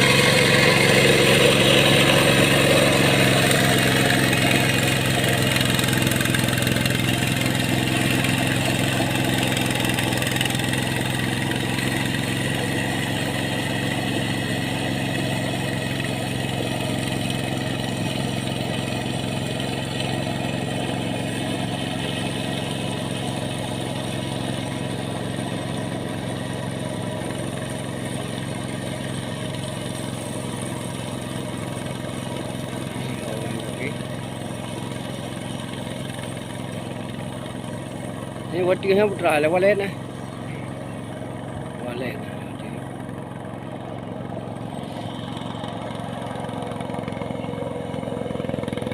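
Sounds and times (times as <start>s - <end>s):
hand tractor engine running: 0.0s - 48.9s.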